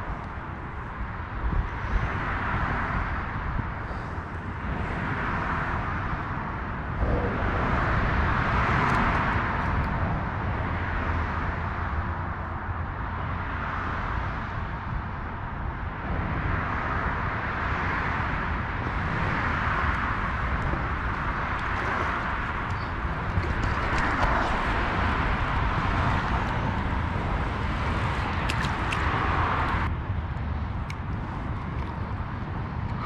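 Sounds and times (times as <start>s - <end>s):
low traffic rumble: 0.0s - 33.0s.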